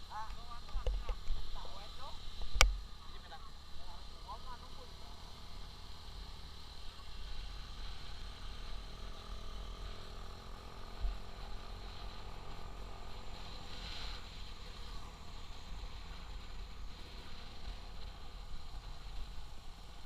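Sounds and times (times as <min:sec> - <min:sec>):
motorcycle engine and road noise: 0:00.0 - 0:20.0.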